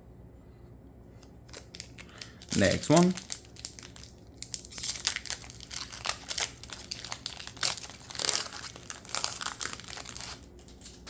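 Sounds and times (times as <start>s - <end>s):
foil wrapper crinkling: 1.5s - 11.0s.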